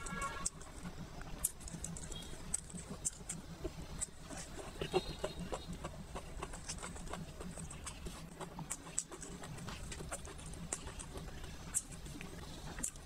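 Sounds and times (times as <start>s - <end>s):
wet chewing mouth clicks: 0.0s - 13.0s.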